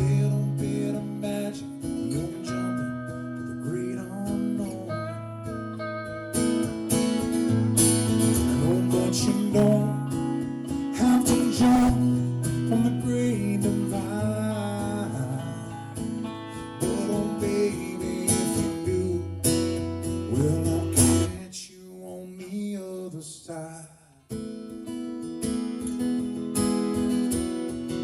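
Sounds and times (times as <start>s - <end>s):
acoustic guitar playing: 0.0s - 21.5s, 24.2s - 28.0s.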